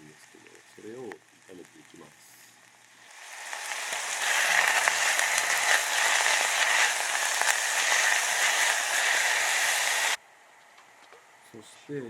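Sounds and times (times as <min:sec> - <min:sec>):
cabbage sizzling in oil: 0:00.0 - 0:10.2.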